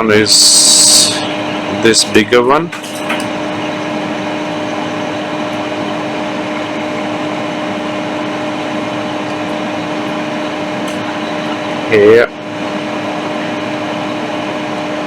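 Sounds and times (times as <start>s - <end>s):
small blower fan whirring: 0.0s - 15.0s.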